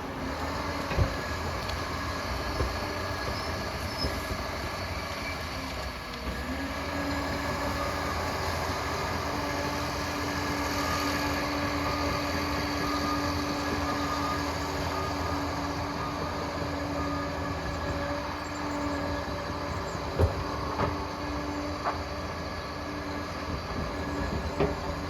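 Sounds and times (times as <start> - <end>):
bulldozer diesel engine drone: 0.0 - 25.0.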